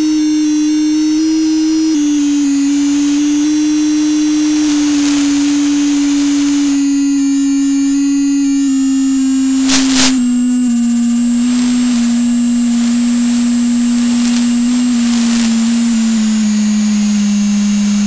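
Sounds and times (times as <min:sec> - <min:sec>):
electronic variometer tone: 0:00.0 - 0:18.0
static bursts: 0:01.3 - 0:18.0.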